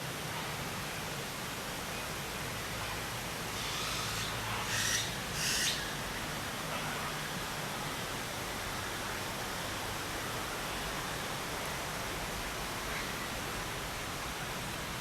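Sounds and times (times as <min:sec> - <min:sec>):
outdoor nature ambience hiss: 0:00.0 - 0:15.0.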